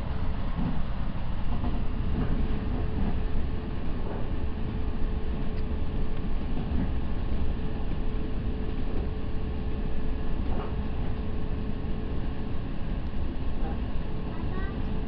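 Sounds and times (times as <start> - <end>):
train interior rumble and hum: 0.0 - 15.0.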